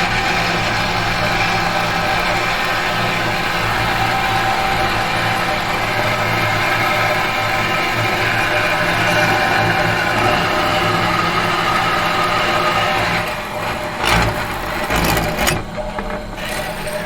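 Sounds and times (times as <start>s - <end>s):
metal machine humming: 0.1s - 17.0s.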